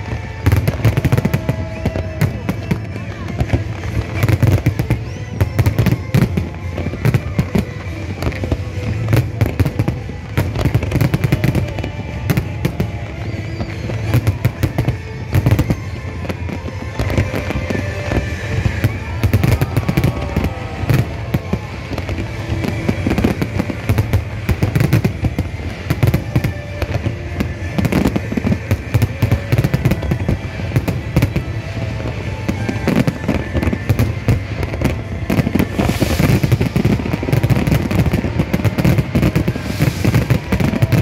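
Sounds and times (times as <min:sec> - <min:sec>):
fireworks bursting: 0:00.0 - 0:41.0
fireworks crackling: 0:00.0 - 0:41.0.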